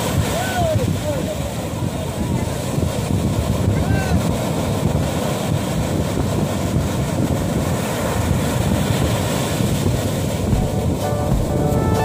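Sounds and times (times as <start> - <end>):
surf breaking on a beach: 0.0 - 12.0
wind buffeting the microphone: 0.0 - 12.0.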